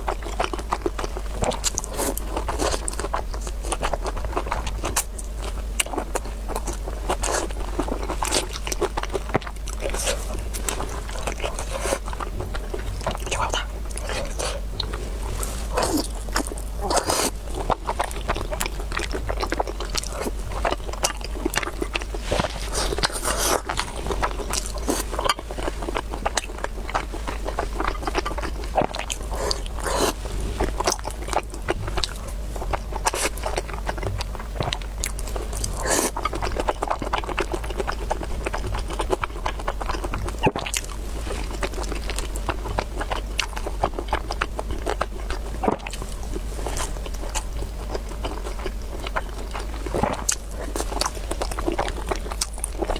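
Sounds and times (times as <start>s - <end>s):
person chewing food: 0.0s - 52.9s
steady low hum: 0.0s - 52.9s.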